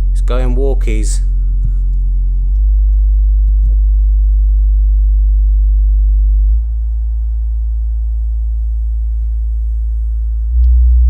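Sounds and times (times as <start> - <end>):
low bass test tone: 0.0 - 11.0.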